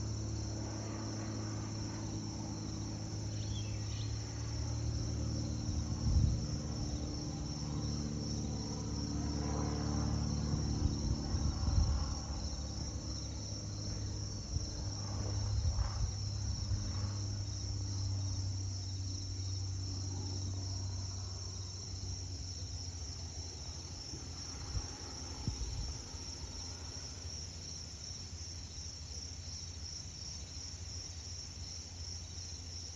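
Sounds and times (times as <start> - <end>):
crickets chirping: 0.0 - 32.9
propeller plane droning overhead: 0.0 - 32.9.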